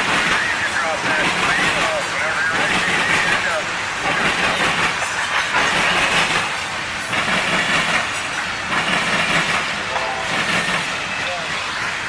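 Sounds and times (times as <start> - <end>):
clickety-clack over rail joints: 0.0 - 12.0
train wheels rattling and rumbling: 0.0 - 12.0.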